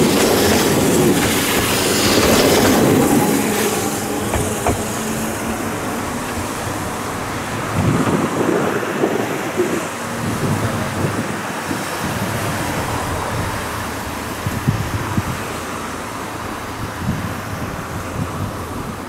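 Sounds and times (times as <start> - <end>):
road traffic noise: 0.0 - 19.0
wind buffeting microphone: 0.0 - 19.0.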